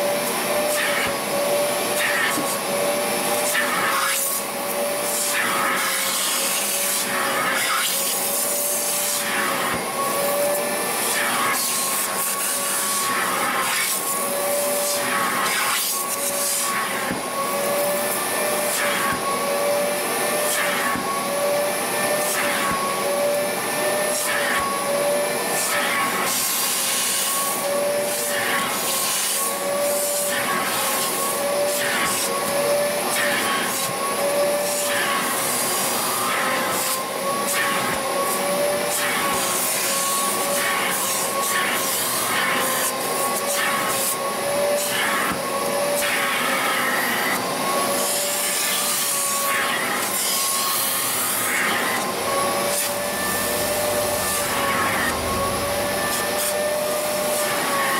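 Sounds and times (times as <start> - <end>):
vacuum motor whine: 0.0 - 57.9
rushing suction: 0.5 - 57.9.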